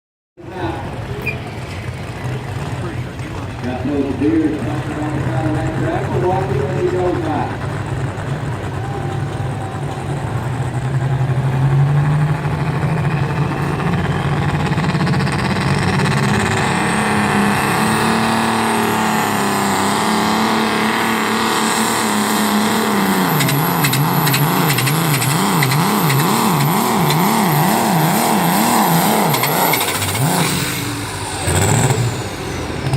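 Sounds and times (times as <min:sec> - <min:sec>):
truck engine running under load: 0:00.4 - 0:32.9.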